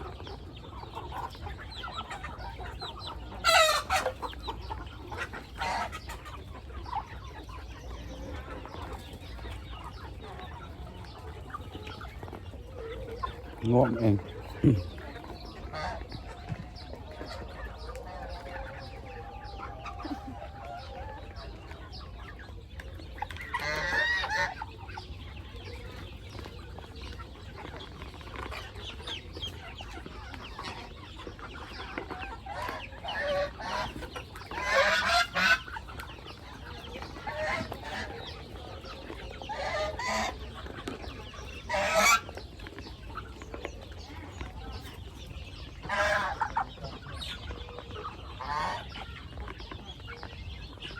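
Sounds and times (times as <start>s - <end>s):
chickens clucking and squawking: 0.0s - 50.9s.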